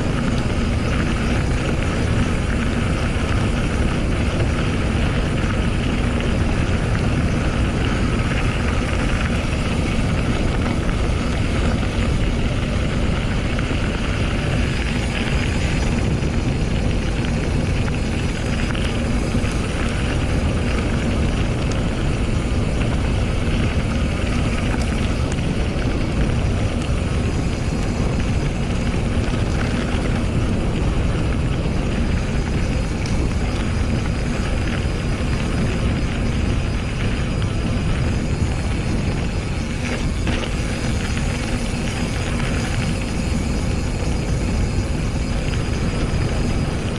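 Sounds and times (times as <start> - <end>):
bike rolling over trail: 0.0 - 46.9
wind buffeting microphone: 0.0 - 46.9.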